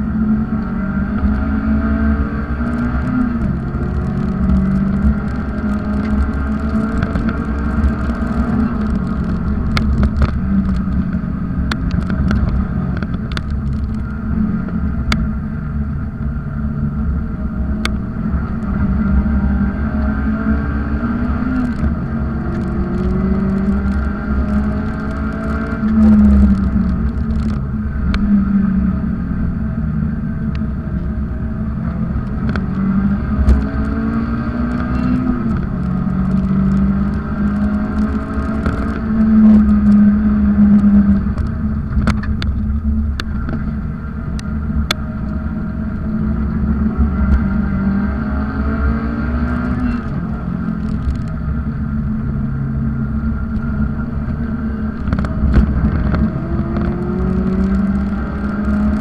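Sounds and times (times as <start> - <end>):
car engine revving under acceleration: 0.0 - 59.0.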